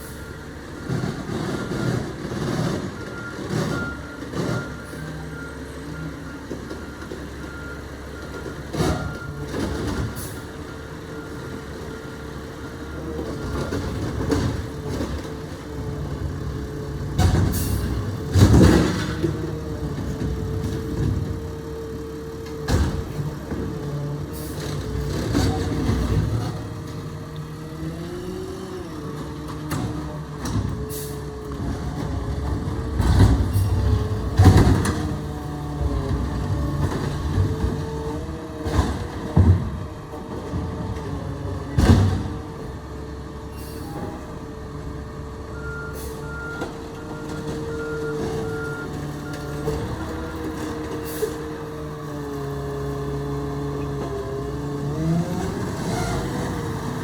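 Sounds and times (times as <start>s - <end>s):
garbage truck engine whine: 0.0s - 57.0s.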